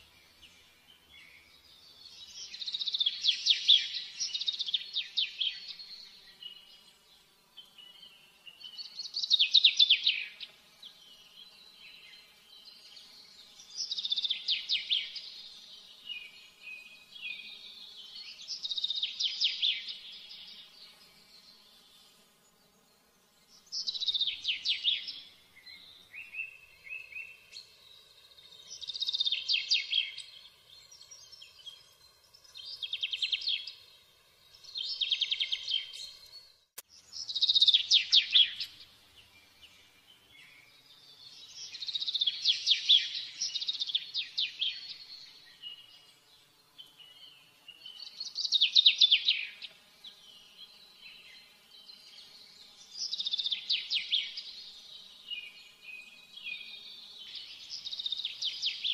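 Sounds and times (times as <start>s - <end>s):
songbird chirping and trilling: 0.0s - 58.9s.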